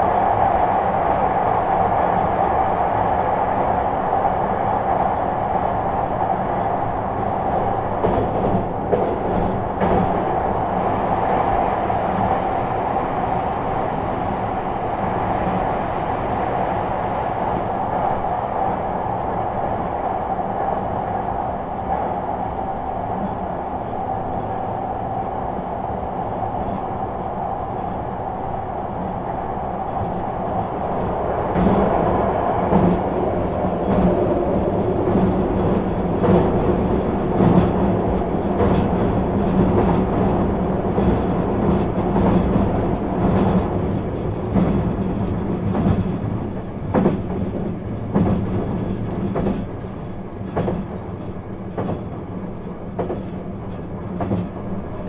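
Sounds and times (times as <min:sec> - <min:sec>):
train cabin rumble: 0:00.0 - 0:55.0.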